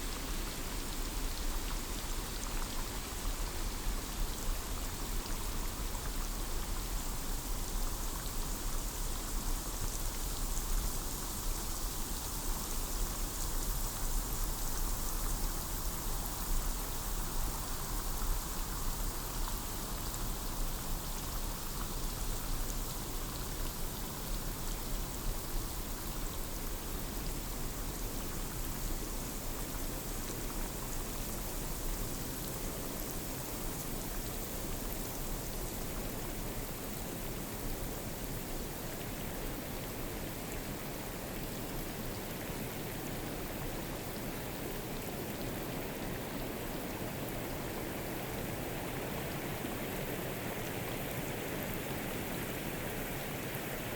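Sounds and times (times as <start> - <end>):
rain on foliage: 8.0 - 53.9.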